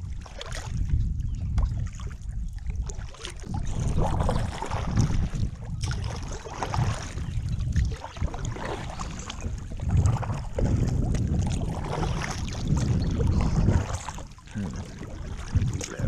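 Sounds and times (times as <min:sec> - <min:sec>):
paddle splashing in water: 0:00.0 - 0:00.9, 0:01.5 - 0:16.0
wind buffeting microphone: 0:00.0 - 0:16.0.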